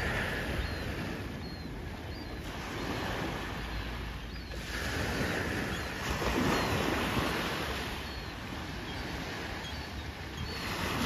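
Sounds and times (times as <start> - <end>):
small waves breaking on shore: 0.0 - 11.0
wind rumble on microphone: 0.0 - 11.0.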